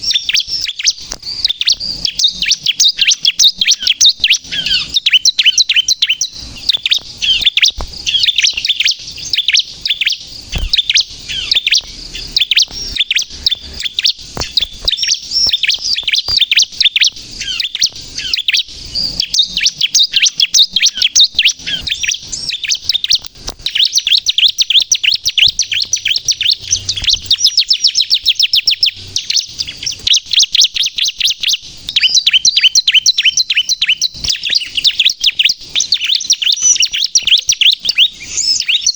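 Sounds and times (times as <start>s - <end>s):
bird singing high sharp chirps: 0.0s - 38.9s.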